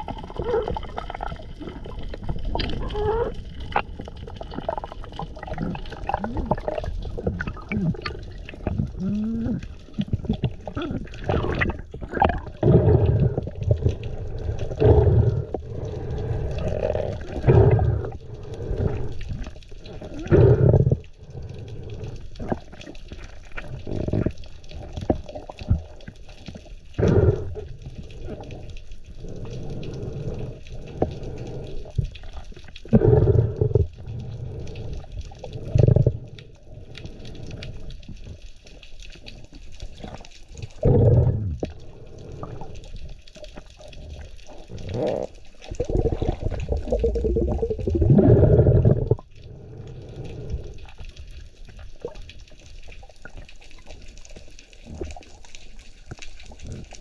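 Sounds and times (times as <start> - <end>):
muffled underwater water noise: 0.0 - 57.0.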